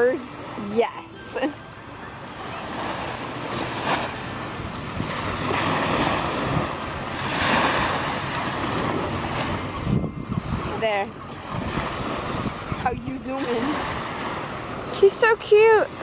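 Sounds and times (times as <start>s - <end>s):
small waves breaking on beach: 0.0s - 16.0s
wind on microphone: 0.0s - 16.0s.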